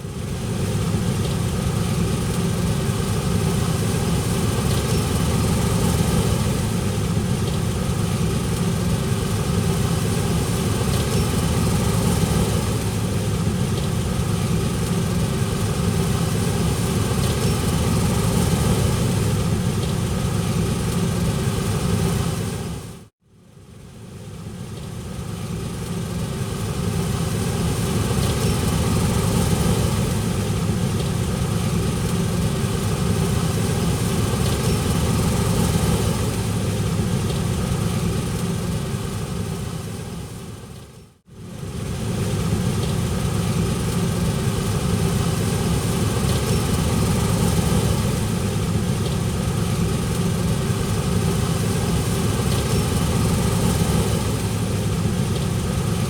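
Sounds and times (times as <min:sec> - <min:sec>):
farm machinery engine running: 0:00.0 - 0:23.1, 0:24.3 - 0:56.0.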